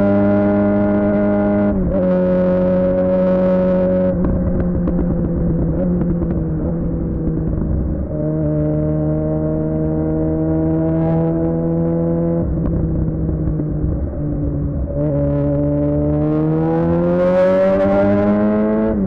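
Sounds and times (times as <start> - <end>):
motorcycle engine running: 2.5 - 19.0.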